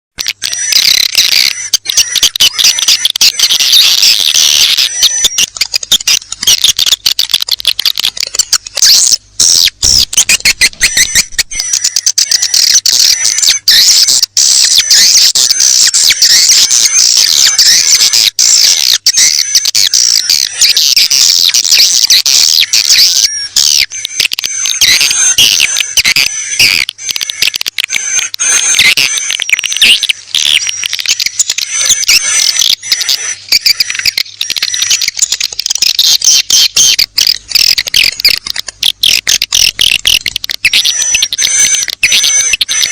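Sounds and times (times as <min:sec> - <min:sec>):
swiftlet chirps and twitters: 0:00.2 - 0:42.9.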